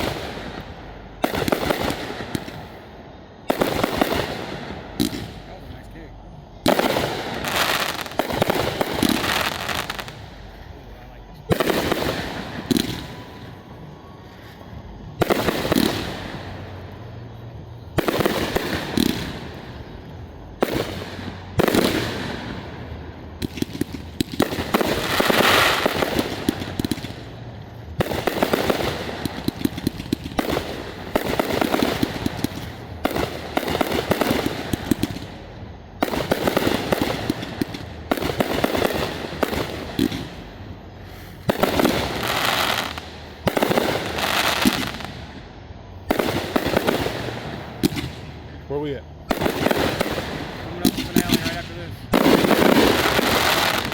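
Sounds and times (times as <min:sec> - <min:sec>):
fireworks booming: 0:00.0 - 0:53.9
fireworks crackling: 0:00.0 - 0:53.9.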